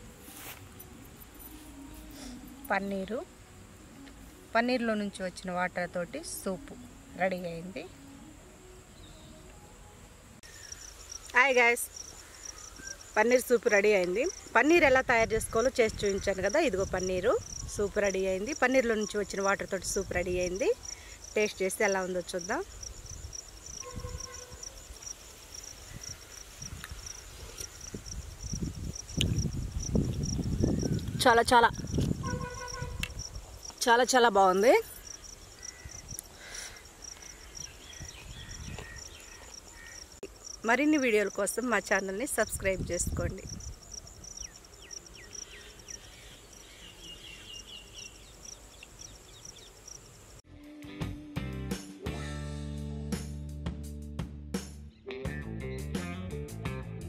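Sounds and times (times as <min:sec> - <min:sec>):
insects chirping: 0:00.7 - 0:50.4.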